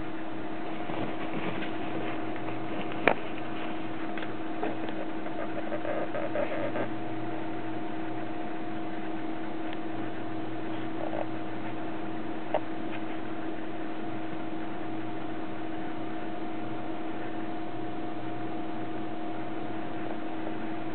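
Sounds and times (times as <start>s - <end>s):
steady hum: 0.0s - 20.9s.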